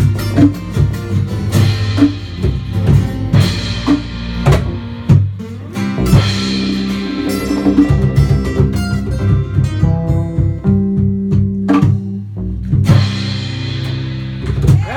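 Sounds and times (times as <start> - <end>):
percussion hits: 0.0 - 12.1
acoustic guitar: 0.0 - 14.9
bass guitar: 0.0 - 14.9.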